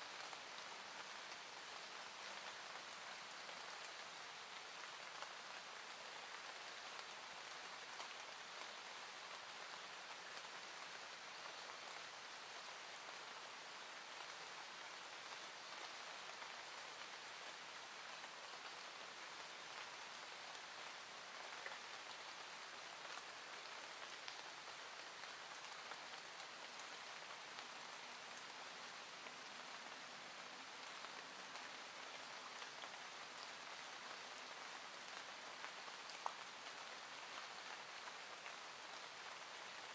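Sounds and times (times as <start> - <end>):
soft hiss with fine patter: 0.0 - 39.9.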